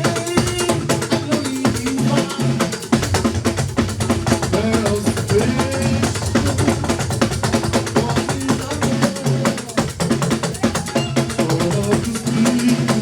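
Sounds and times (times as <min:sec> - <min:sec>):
drum and percussion beat: 0:00.0 - 0:13.0
live hymn music: 0:00.0 - 0:13.0.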